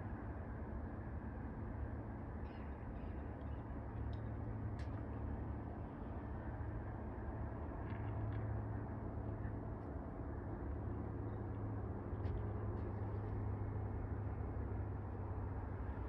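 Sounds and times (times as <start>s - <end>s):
distant propeller plane engine drone: 0.0s - 16.0s.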